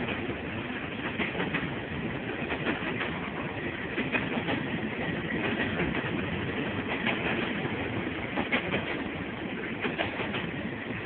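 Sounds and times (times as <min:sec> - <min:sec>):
wheels clacking over rail joints: 0:00.0 - 0:10.7
train wheels rumbling: 0:00.0 - 0:11.0.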